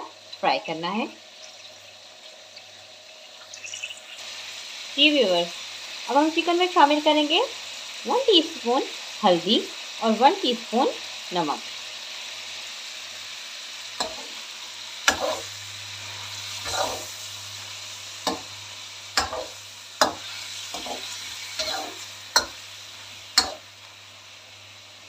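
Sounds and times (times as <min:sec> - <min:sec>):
chicken sizzling in oil: 0:00.0 - 0:25.0.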